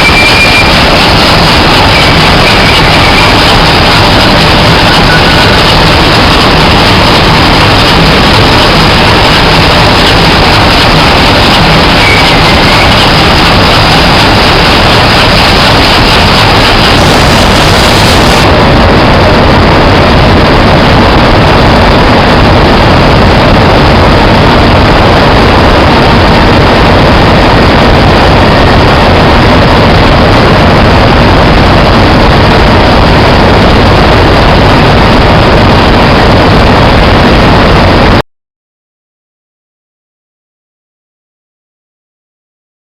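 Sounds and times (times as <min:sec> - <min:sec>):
engine room machinery roar: 0:00.0 - 0:38.2.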